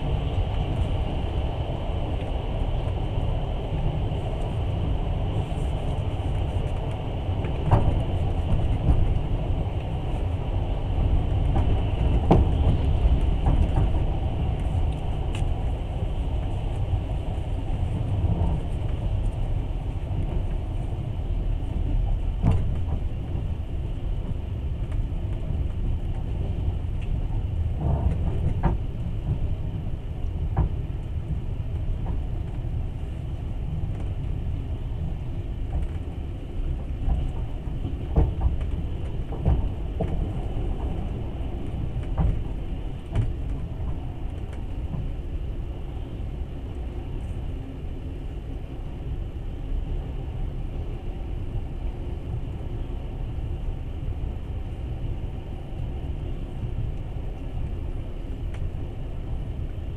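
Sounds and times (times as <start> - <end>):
wheels rumbling on rails: 0.0 - 59.9.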